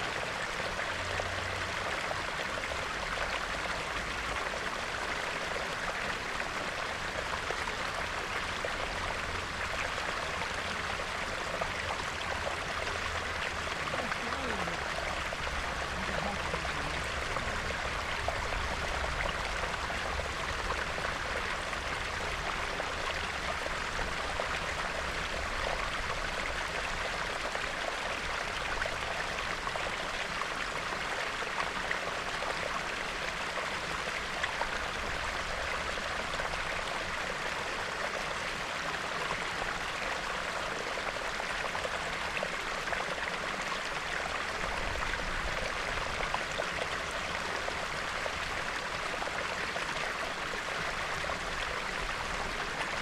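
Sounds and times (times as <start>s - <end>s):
stream bubbling: 0.0s - 53.0s.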